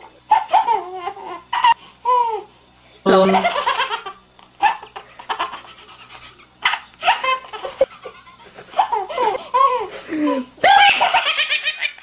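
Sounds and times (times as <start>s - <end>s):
baby laughing: 0.3s - 2.5s, 3.3s - 12.0s.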